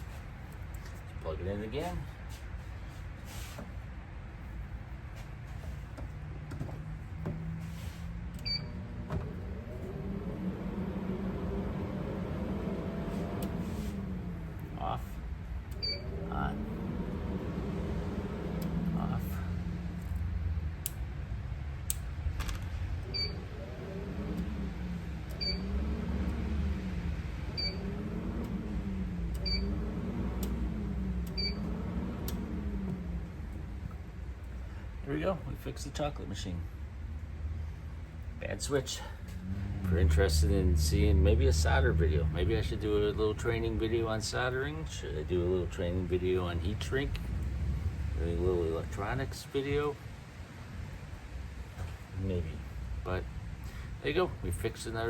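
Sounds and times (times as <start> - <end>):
low motor hum: 0.0 - 55.0.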